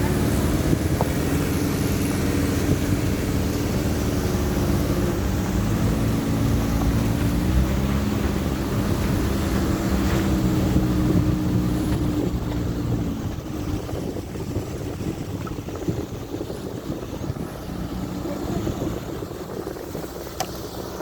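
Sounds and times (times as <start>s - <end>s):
vehicle engine running: 0.0s - 21.0s
wind noise on microphone: 0.0s - 21.0s.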